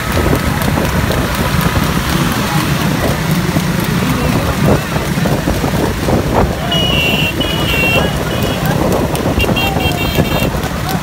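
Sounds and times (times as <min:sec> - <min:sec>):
motorcycle engine droning: 0:00.0 - 0:11.0
road noise: 0:00.0 - 0:11.0.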